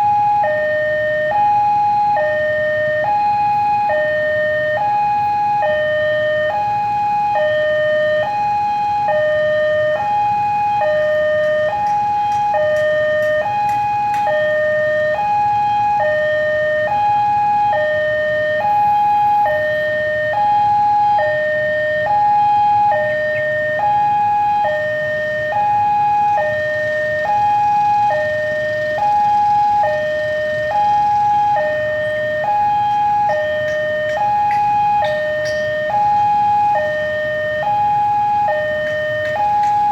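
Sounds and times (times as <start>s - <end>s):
level-crossing two-tone alarm: 0.0s - 39.9s.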